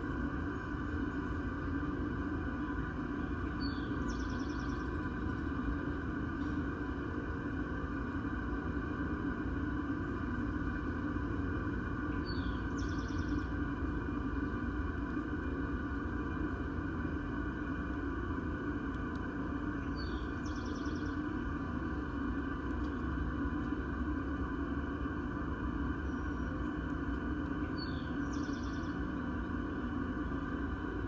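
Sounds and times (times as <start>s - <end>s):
churning drone under a house: 0.0s - 31.0s.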